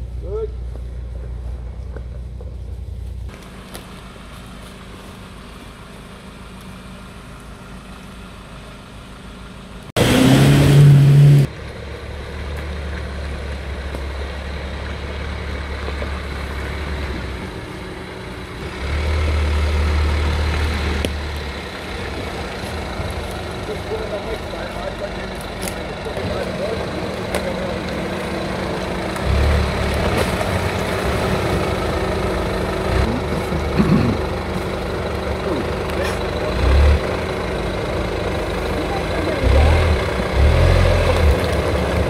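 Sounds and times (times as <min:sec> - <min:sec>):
off-road vehicle engine running: 0:00.0 - 0:42.0.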